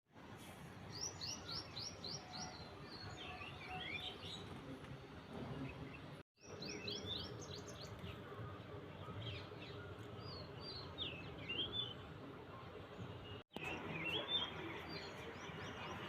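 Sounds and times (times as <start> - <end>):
small birds chirping: 0.9 - 16.0.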